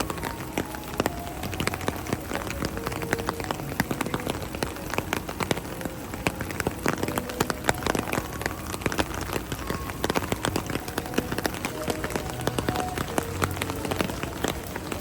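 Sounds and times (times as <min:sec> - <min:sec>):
heavy rain on hard surfaces: 0:00.0 - 0:15.0.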